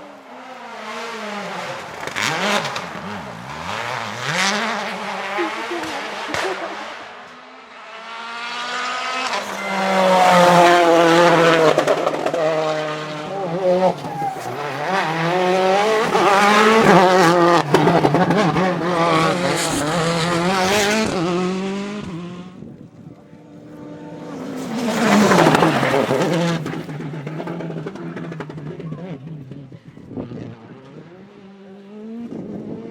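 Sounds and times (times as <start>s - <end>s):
rally car engine revving: 0.0s - 32.9s.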